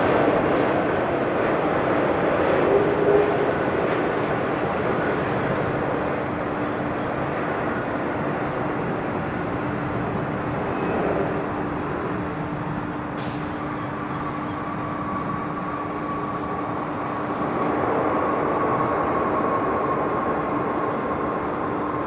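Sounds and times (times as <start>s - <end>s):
jet aircraft landing: 0.0s - 22.0s.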